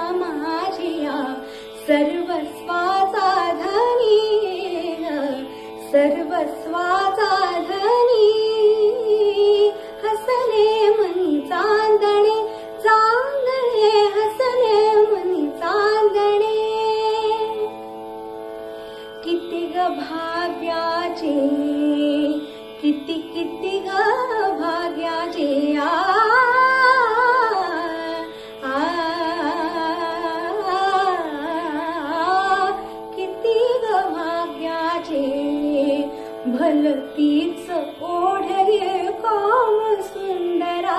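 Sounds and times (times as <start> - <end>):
woman singing: 0.0 - 17.7, 19.2 - 40.9.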